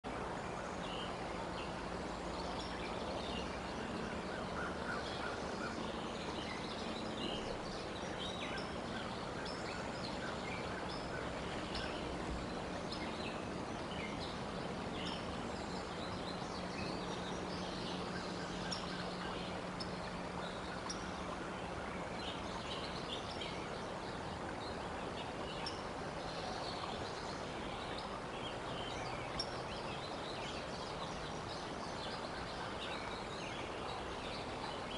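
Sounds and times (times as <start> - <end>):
low steady hum: 0.1 - 34.9.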